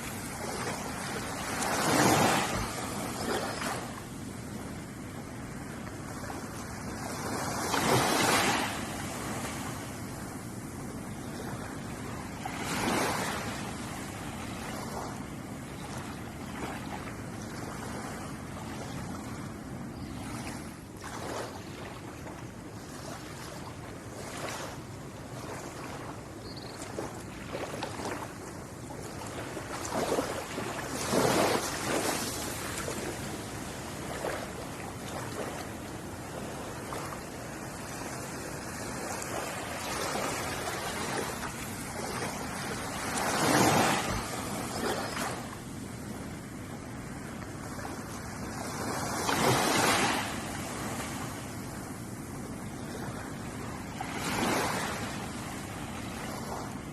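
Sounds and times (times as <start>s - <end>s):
ocean waves washing ashore: 0.0s - 56.9s.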